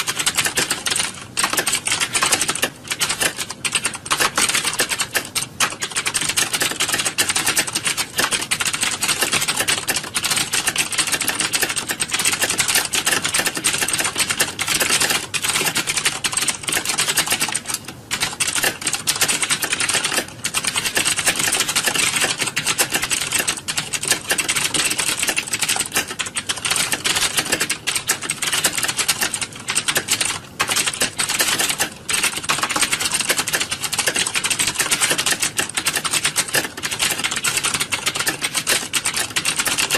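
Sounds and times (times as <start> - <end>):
many keyboards typing: 0.0 - 39.9.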